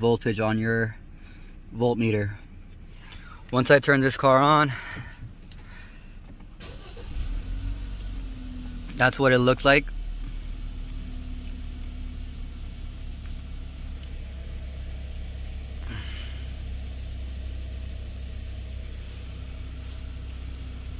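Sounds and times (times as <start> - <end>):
car engine idling: 0.8 - 20.9.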